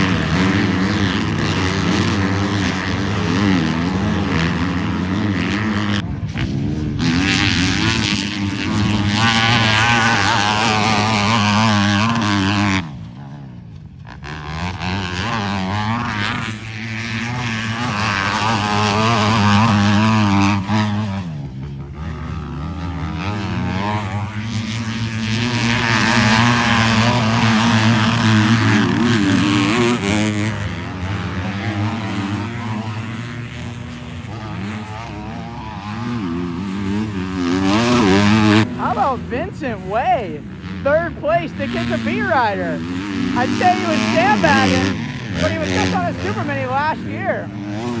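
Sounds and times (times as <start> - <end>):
motocross bike engines revving: 0.0 - 48.0.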